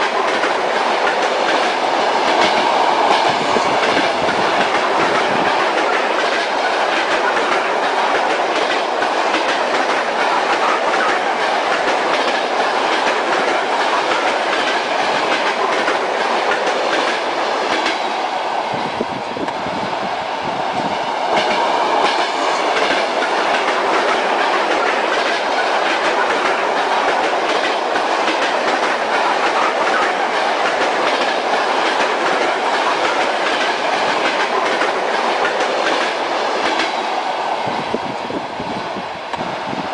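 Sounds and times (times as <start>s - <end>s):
rolling train rumble: 0.0s - 39.9s
train wheels clacking on rails: 0.0s - 39.9s.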